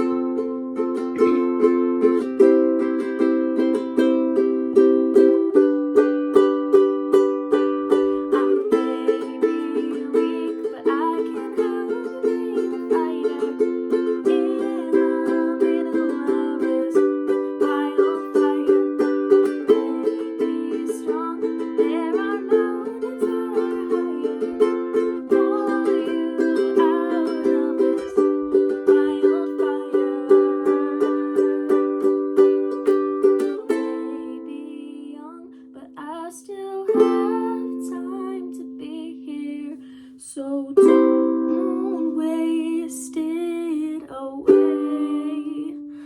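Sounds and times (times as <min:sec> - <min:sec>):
ukulele strumming: 0:00.0 - 0:40.1, 0:40.7 - 0:46.0
person singing: 0:00.0 - 0:46.0.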